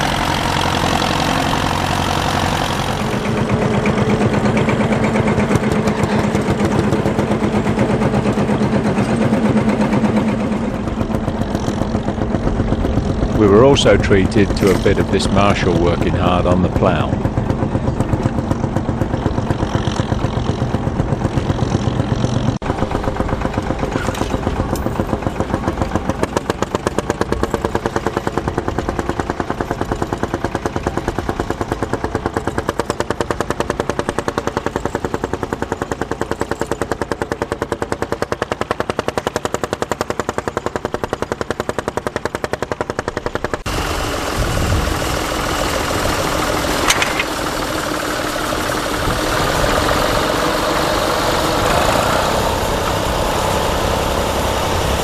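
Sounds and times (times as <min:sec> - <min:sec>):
tractor diesel engine exhaust beats: 0:00.0 - 0:55.0.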